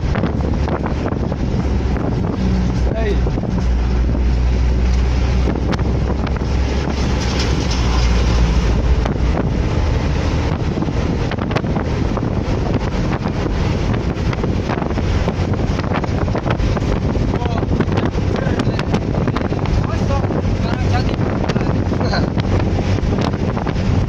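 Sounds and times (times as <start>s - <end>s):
deep vehicle rumble: 0.0s - 24.0s
road traffic noise: 0.0s - 24.0s
wind buffeting microphone: 0.0s - 24.0s.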